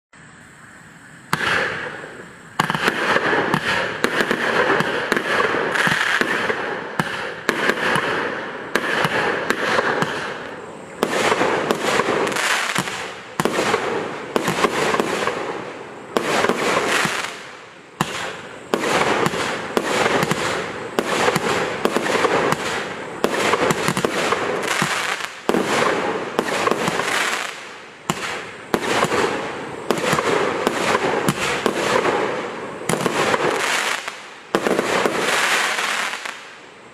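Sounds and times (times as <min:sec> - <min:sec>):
fireworks crackling and popping: 0:01.0 - 0:36.9.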